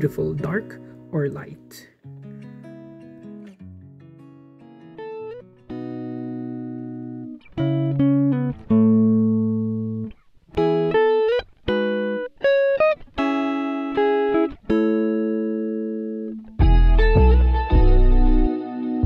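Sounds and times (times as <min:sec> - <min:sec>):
plucked guitar chords: 0:00.0 - 0:19.0.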